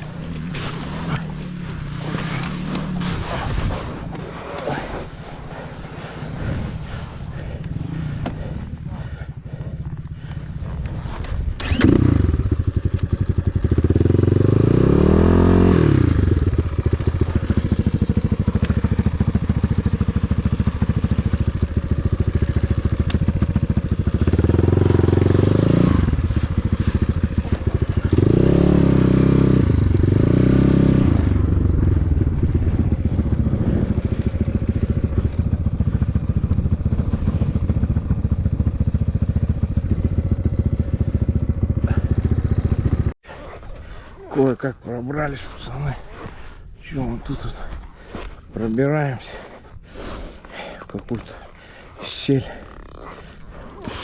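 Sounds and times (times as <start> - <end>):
motorcycle engine revving: 0.0 - 43.2, 52.0 - 54.0.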